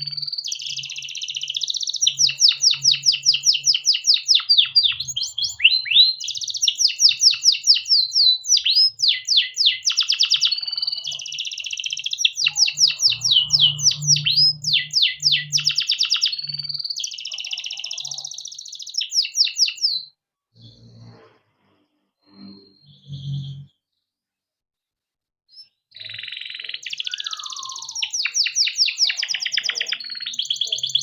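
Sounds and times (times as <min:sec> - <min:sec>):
canary singing trills: 0:00.0 - 0:21.2, 0:22.2 - 0:23.8, 0:25.5 - 0:31.0.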